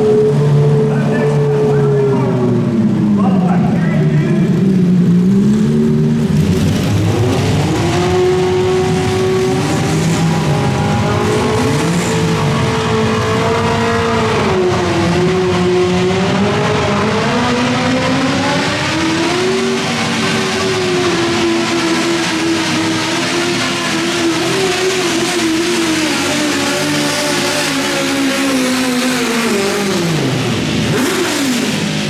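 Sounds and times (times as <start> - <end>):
tractor engine at high revs: 0.0 - 32.0.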